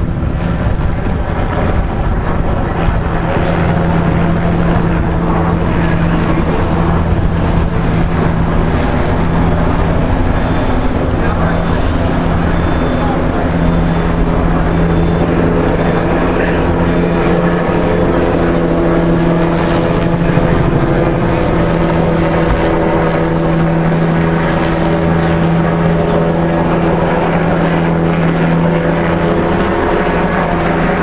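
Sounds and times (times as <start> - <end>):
mechanical drone: 0.0 - 31.0.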